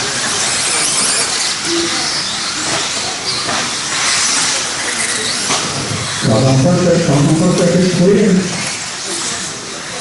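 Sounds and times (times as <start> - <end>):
electric rc cars racing: 0.0 - 10.0.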